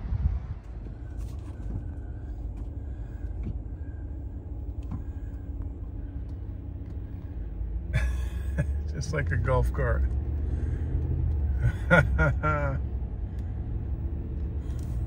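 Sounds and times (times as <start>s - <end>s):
motor vehicle running: 0.0s - 15.0s.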